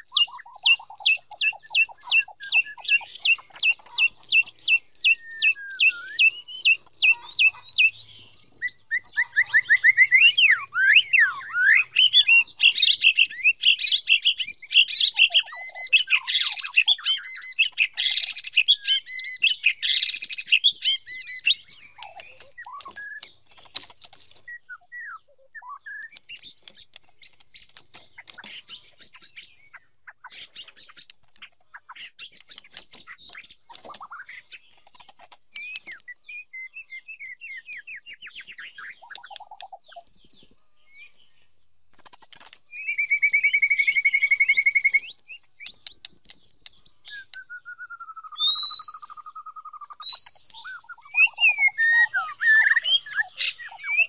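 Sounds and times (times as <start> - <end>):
songbird whistles and trills: 0.0 - 41.4, 42.4 - 54.0.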